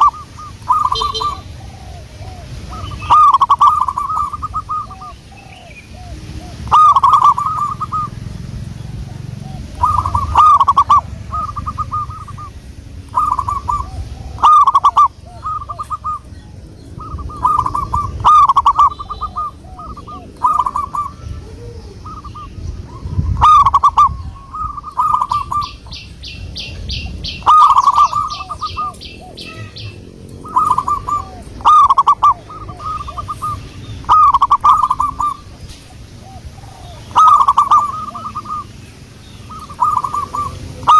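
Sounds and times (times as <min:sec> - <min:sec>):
dove cooing: 0:00.0 - 0:40.9
high ticking bird notes: 0:00.0 - 0:40.9.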